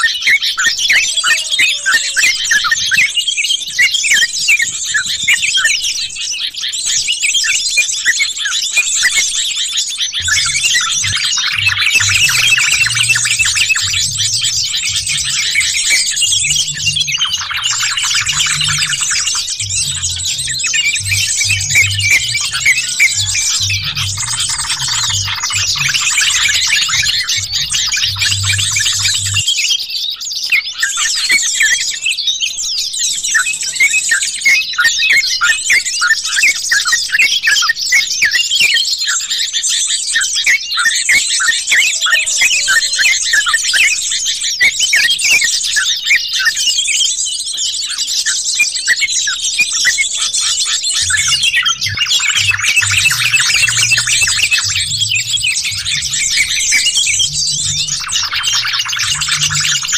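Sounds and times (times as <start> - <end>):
birds chirping and chattering: 0.0 - 59.9.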